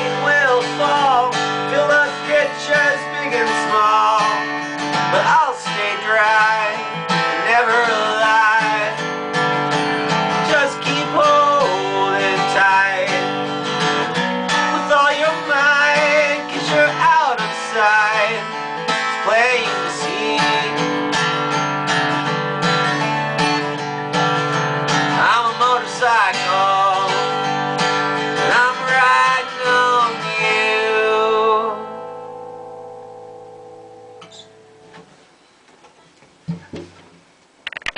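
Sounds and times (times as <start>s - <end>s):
acoustic guitar strummed: 0.0s - 35.2s.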